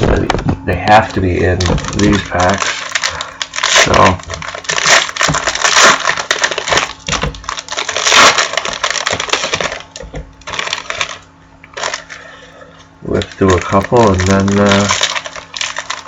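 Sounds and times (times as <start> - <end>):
plastic wrappers crinkling: 0.0 - 16.0.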